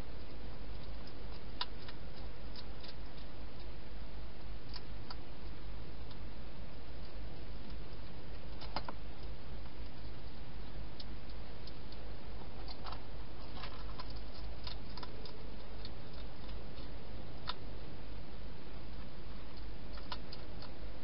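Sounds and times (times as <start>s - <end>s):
hedgehog eating clicks and crunches: 0.1s - 17.9s, 18.9s - 21.0s.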